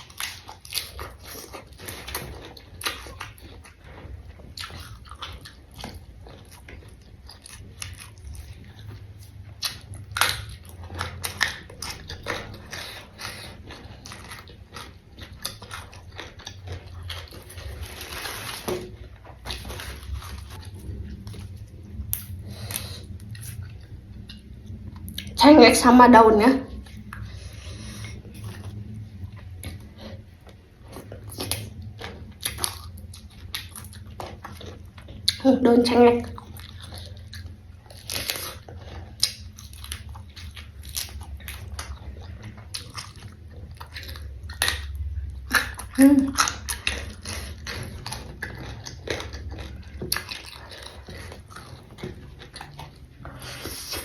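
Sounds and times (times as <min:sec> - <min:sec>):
chewing and crunching vegetables: 0:00.0 - 0:54.0
low steady hum: 0:00.0 - 0:54.0.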